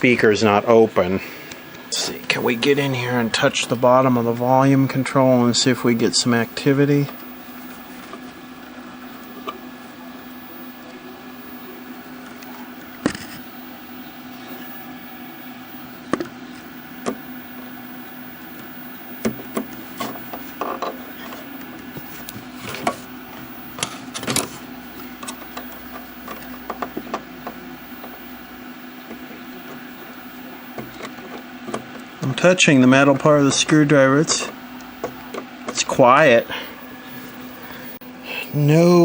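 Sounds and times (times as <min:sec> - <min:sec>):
low hum from tv speaker: 0:00.0 - 0:39.0.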